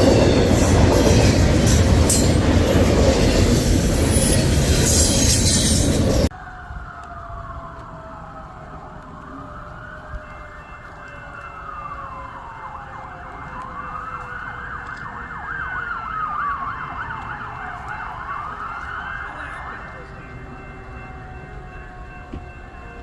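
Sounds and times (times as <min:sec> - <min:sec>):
emergency vehicle siren: 0:00.0 - 0:23.0.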